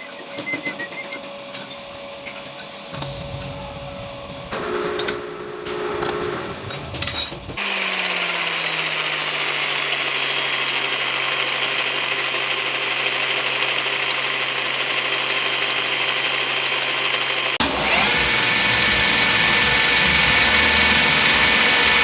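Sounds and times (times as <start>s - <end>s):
power tool motor running: 0.0s - 22.0s.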